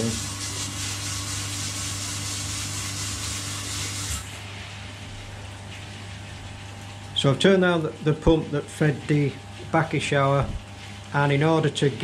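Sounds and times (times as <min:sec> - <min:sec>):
electrical pump hum: 0:00.0 - 0:12.0.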